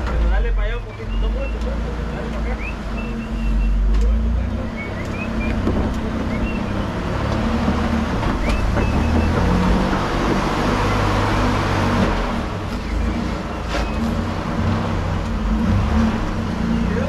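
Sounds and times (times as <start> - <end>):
vehicle engine running steadily: 0.0 - 17.0.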